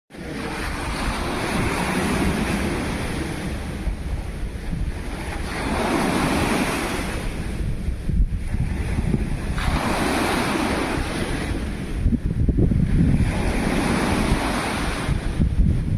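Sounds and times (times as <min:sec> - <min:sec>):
waves rushing in: 0:00.1 - 0:15.9
wind rumbling on microphone: 0:00.1 - 0:15.9.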